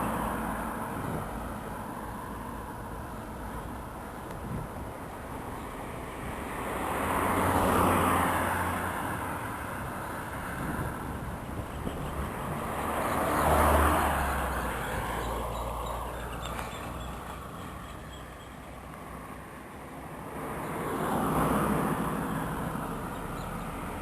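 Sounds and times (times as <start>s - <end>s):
road vehicles passing by: 0.0s - 24.0s.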